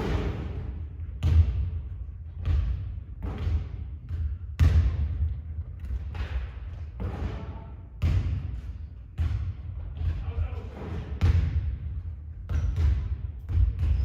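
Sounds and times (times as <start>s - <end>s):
basketballs bouncing: 0.0s - 14.0s.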